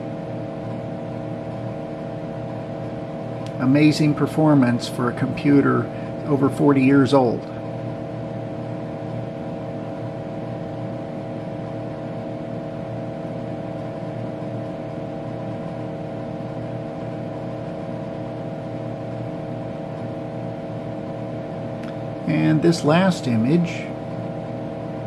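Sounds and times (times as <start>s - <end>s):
computer and cooling fan hum: 0.0s - 25.0s.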